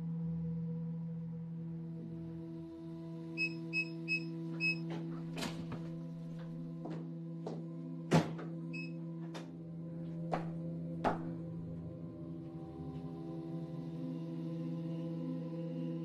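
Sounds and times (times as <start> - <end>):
low drone: 0.0 - 16.0.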